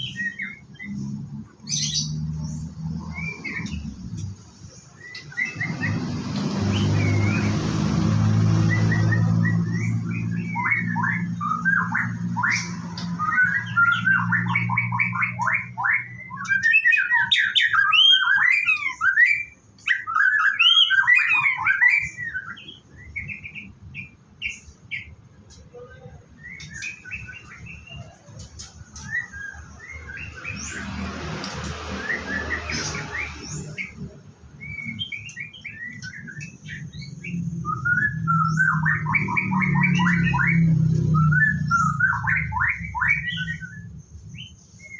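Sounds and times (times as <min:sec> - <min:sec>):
bird singing whistles and chirps: 0:00.0 - 0:07.6, 0:08.4 - 0:25.1, 0:25.8 - 0:44.9.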